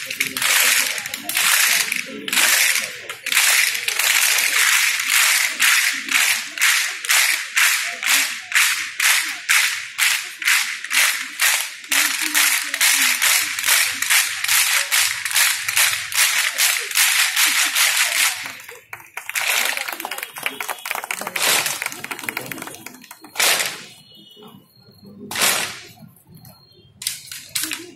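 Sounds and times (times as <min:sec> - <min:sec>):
group clapping in unison: 0:00.0 - 0:24.2, 0:25.3 - 0:26.0, 0:27.0 - 0:27.9.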